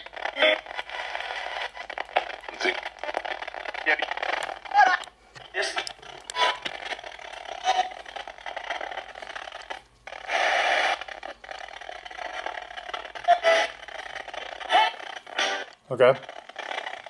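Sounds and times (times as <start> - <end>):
radio static: 0.0 - 17.0
snatches of broadcast sound: 0.0 - 17.0.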